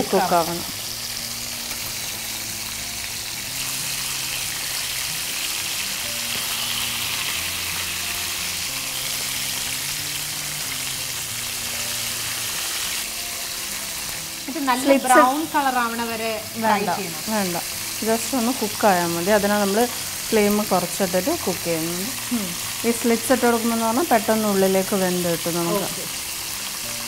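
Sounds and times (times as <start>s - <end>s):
chicken deep-frying in oil: 0.0s - 14.8s, 17.2s - 27.0s.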